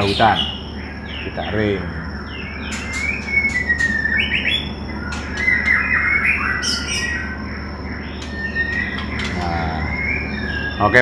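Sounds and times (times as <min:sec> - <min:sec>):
bird harsh chattering: 0:00.0 - 0:11.0
bird ticking calls: 0:00.0 - 0:11.0
bird whistling notes: 0:00.0 - 0:11.0.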